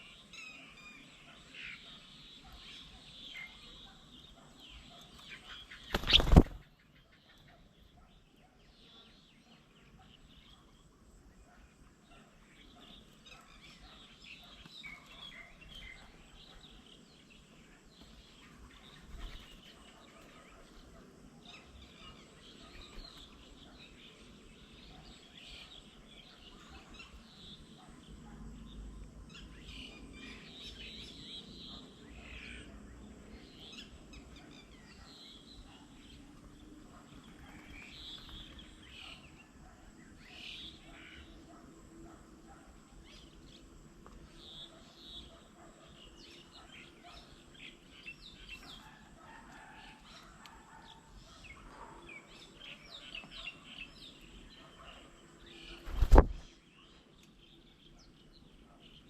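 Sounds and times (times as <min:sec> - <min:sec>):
birds chirping and calling: 0:00.0 - 0:41.6, 0:44.2 - 0:59.0.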